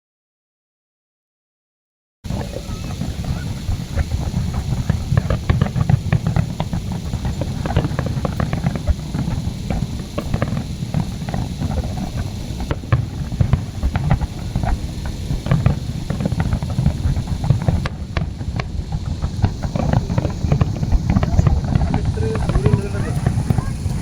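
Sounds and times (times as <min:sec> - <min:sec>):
fireworks booming: 0:02.3 - 0:24.0
fireworks popping and crackling: 0:02.3 - 0:24.0.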